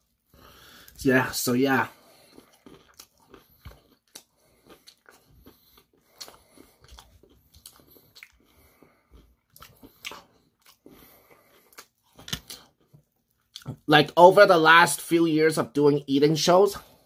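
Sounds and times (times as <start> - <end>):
person chewing crunchy food: 0.0 - 13.9.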